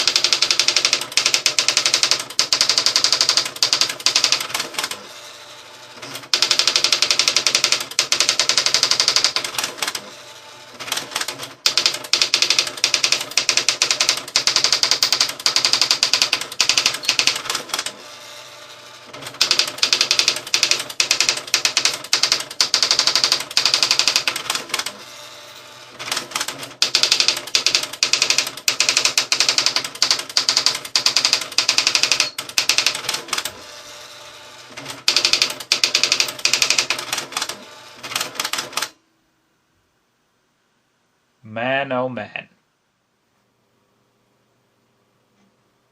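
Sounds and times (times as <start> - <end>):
electronic typewriter typing: 0.0 - 39.0.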